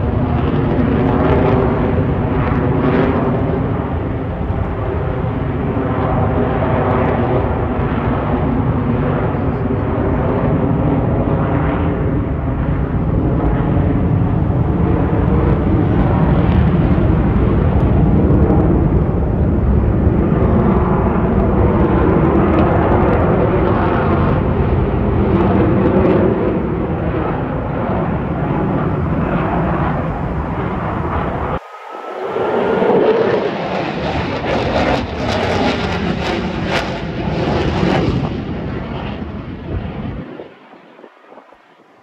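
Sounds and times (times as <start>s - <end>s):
fighter jet flying overhead: 0.0s - 42.0s.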